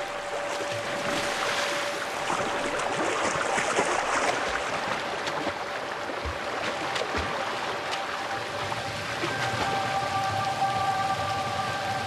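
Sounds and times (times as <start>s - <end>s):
animal wading and splashing: 0.0s - 12.0s
rushing mountain stream: 0.0s - 12.0s.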